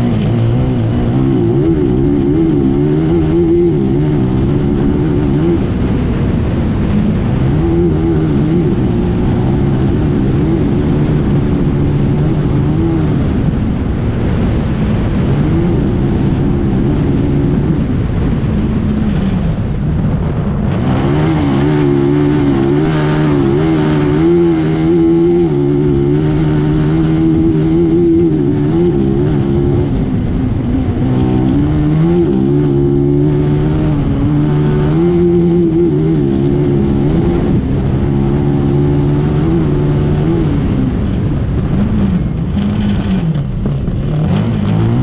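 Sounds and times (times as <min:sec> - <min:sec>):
racing buggy engine: 0:00.0 - 0:45.0
wind rush and track noise: 0:00.0 - 0:45.0.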